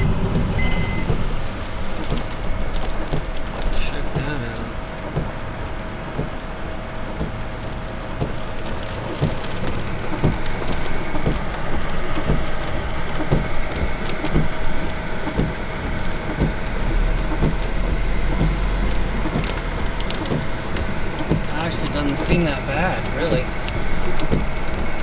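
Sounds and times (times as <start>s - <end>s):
deep low rumble: 0.0s - 25.0s
heavy rain: 0.0s - 25.0s.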